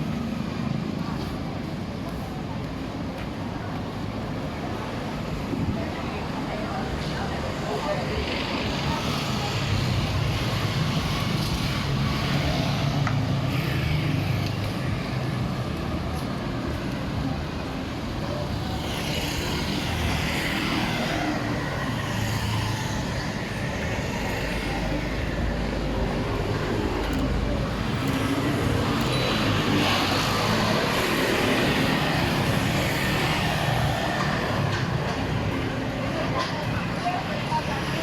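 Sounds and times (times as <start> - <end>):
vehicles passing: 0.0 - 38.0.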